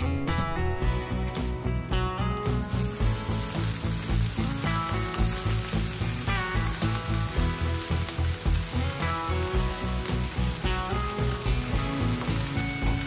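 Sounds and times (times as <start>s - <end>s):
background music with bass beat: 0.0s - 13.0s
burger patties sizzling on griddle: 0.9s - 13.0s.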